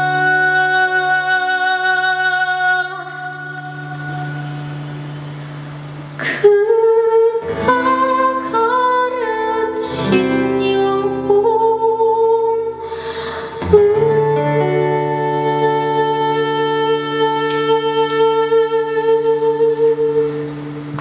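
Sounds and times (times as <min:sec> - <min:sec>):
person singing long notes: 0:00.0 - 0:21.0.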